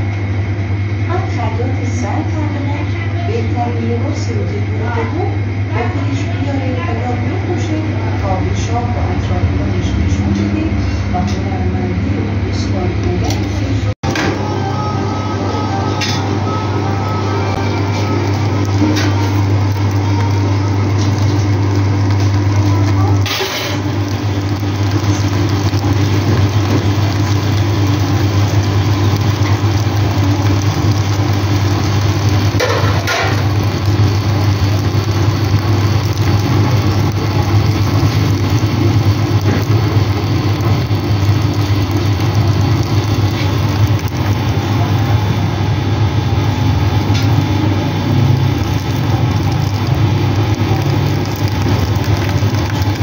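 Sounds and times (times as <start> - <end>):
low motor hum: 0.0 - 53.0.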